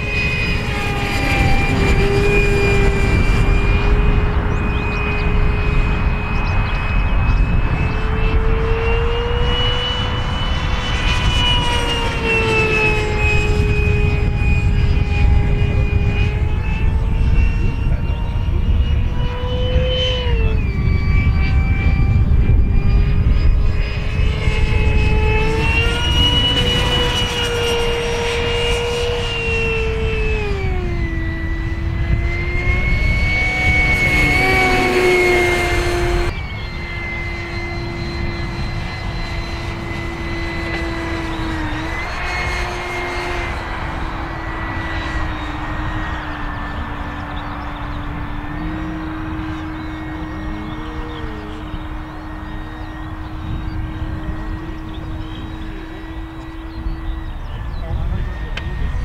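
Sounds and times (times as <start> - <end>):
model jet fan whining: 0.0 - 59.0.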